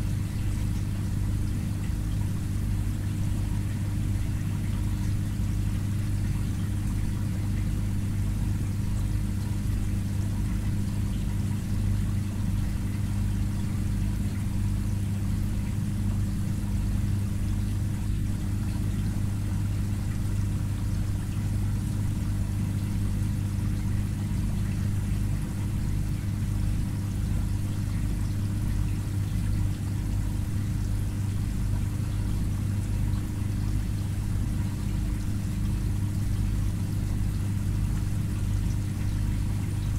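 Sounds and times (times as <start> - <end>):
aquarium filter pump humming: 0.0 - 39.9
moving water: 0.0 - 39.9.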